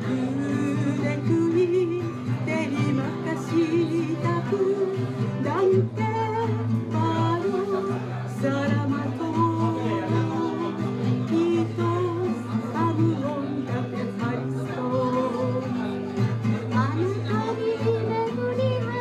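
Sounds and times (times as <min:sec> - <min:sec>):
woman singing with vibrato: 0:00.0 - 0:15.9, 0:16.5 - 0:19.0
acoustic guitar: 0:00.0 - 0:19.0.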